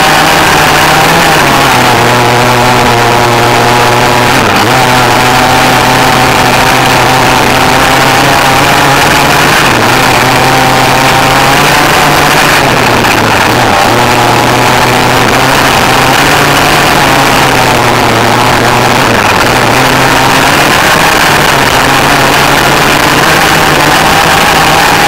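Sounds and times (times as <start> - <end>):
rc car motor running: 0.0 - 25.0.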